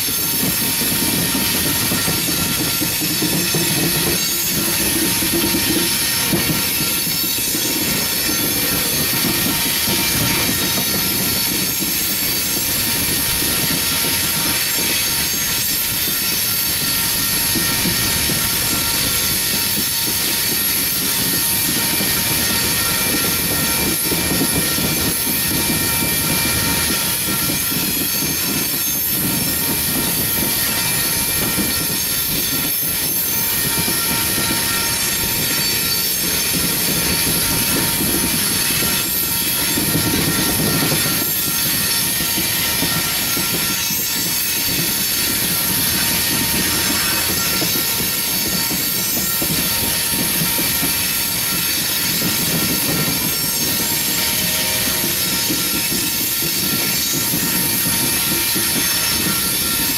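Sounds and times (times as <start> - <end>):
rumble of train wheels: 0.0 - 59.9
train wheels squealing on rails: 0.0 - 59.9.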